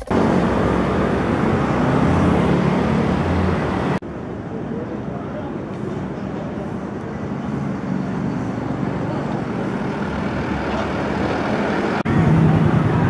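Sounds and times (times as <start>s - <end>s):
low engine hum of traffic: 0.0s - 13.0s.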